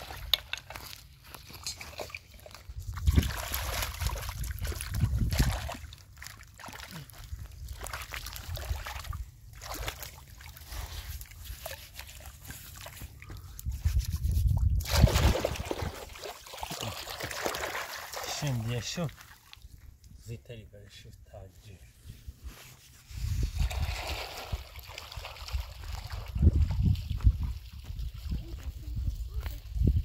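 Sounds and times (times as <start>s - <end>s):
water sloshing and splashing: 0.0s - 20.0s, 23.5s - 28.6s.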